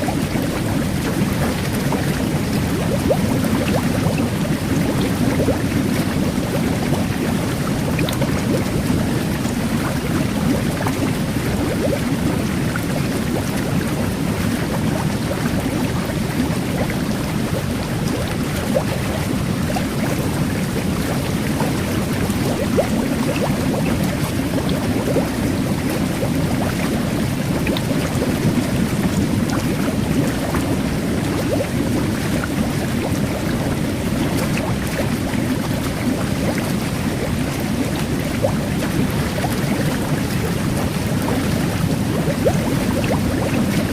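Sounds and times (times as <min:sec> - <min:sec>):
fizzing micro-bubbles: 0:00.0 - 0:43.9
jet bath water rushing: 0:00.0 - 0:43.9.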